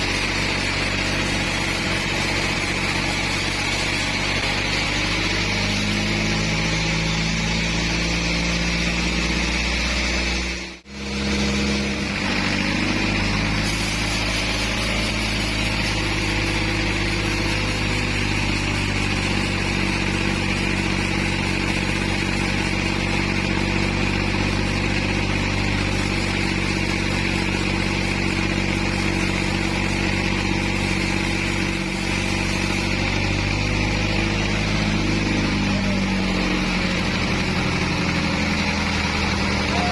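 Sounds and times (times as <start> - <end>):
saw blade whining: 0.0 - 39.9
sawmill engine drone: 0.0 - 39.9.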